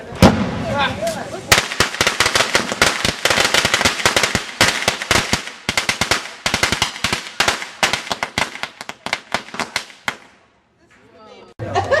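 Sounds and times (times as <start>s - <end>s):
firecrackers popping: 0.0s - 10.6s.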